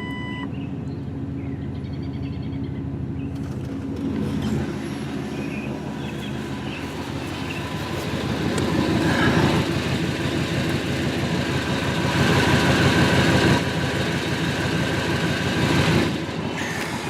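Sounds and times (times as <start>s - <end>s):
vehicle engine throbbing: 0.0s - 17.0s.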